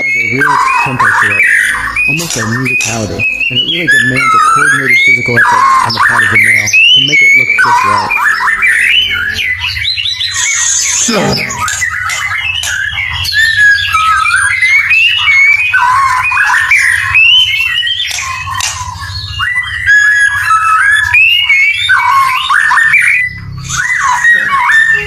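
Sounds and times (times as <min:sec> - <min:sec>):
birds chirping and calling: 0:00.0 - 0:25.0.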